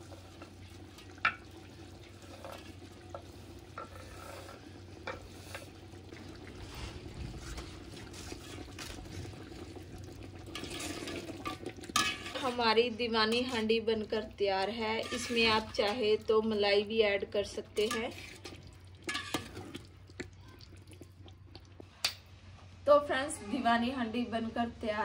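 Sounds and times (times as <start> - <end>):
spoon stirring thick gravy: 0.0 - 22.1.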